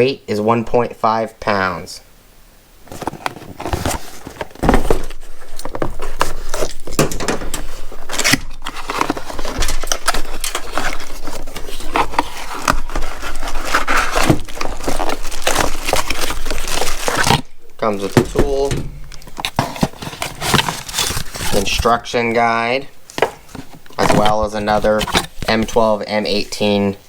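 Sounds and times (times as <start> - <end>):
cardboard box crackling and scraping: 2.8 - 6.9, 7.6 - 22.6, 23.2 - 26.8.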